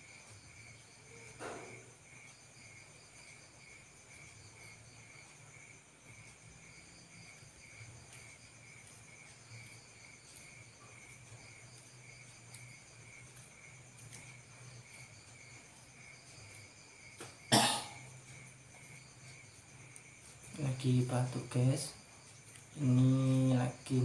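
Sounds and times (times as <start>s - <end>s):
faint low hum: 0.0s - 24.0s
insects chirping: 0.0s - 24.0s.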